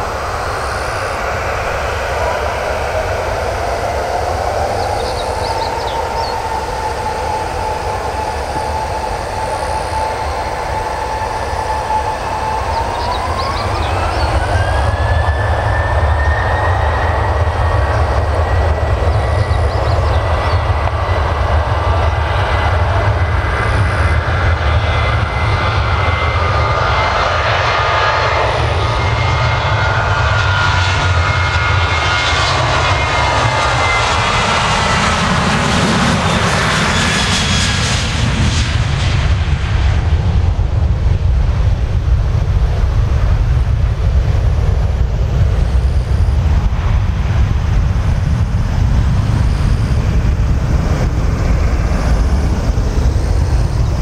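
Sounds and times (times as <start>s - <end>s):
deep jet rumble: 0.0s - 54.0s
jet engines whining: 0.0s - 54.0s.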